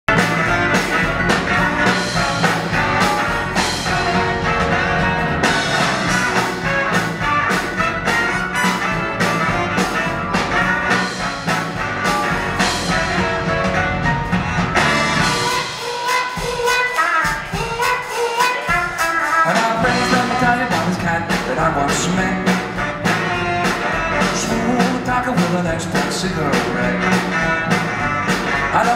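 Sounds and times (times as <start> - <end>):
upright bass: 0.0 - 15.8, 19.5 - 28.9
swing band playing: 0.0 - 28.9.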